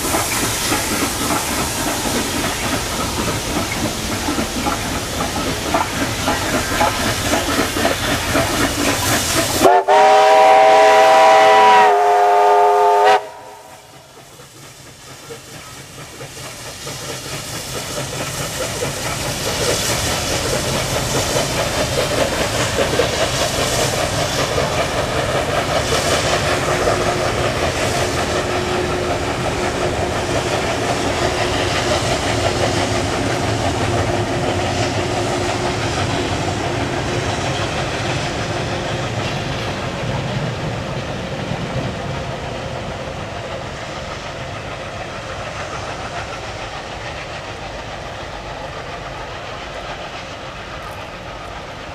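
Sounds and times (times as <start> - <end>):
steam train passing: 0.0 - 51.9
train wheels clattering on rails: 0.0 - 51.9.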